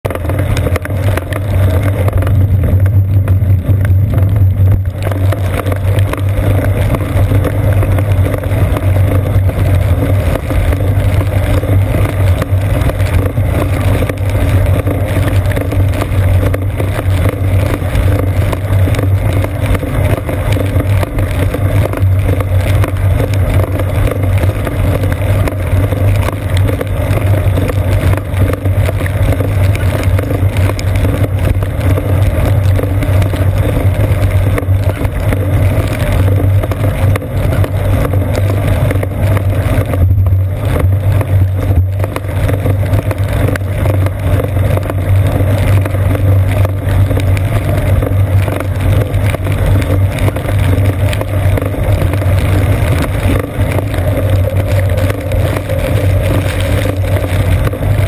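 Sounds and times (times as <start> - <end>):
heavy rain: 0.0 - 58.0
wind: 0.0 - 58.0
tyre spray on wet road: 0.1 - 58.0.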